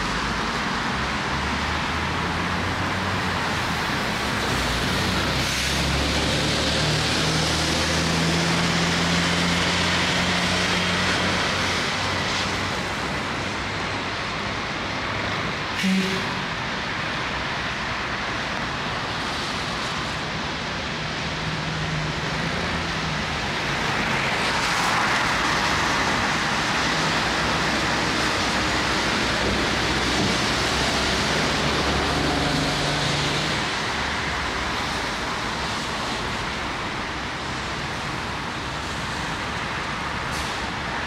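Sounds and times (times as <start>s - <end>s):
tyres hissing on wet road: 0.0s - 41.0s.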